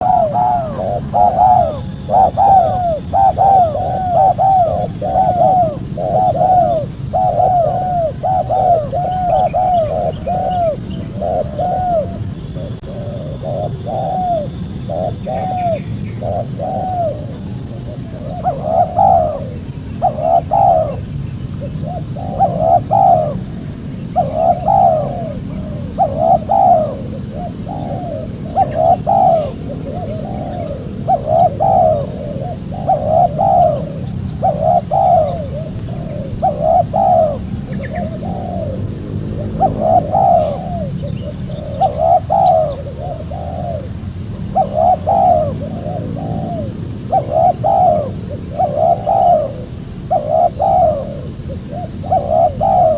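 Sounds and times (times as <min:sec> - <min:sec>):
dove cooing: 0:00.0 - 0:52.9
low background rumble: 0:00.0 - 0:52.9.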